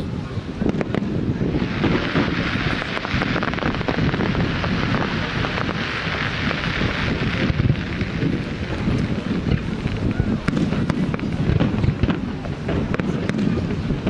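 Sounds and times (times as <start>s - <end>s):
fireworks crackling: 0.0s - 14.0s
wind buffeting microphone: 0.0s - 14.0s.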